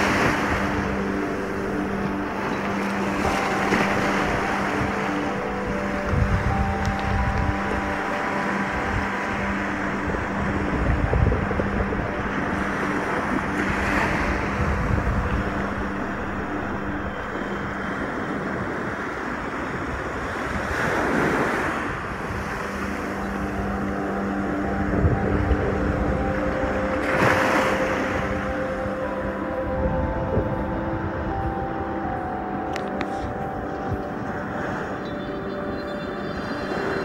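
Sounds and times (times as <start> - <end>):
faint background music: 0.0 - 37.0
wind buffeting microphone: 0.0 - 37.0.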